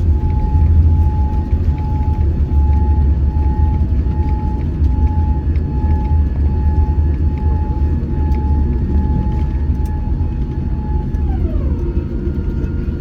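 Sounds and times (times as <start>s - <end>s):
aircraft cabin rumble: 0.0s - 13.0s
jet engine whine: 0.0s - 13.0s.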